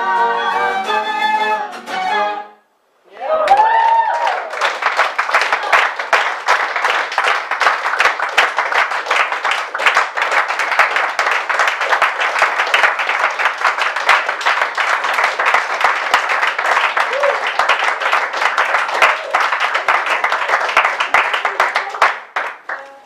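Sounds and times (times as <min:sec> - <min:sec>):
audience clapping: 0:03.4 - 0:23.0.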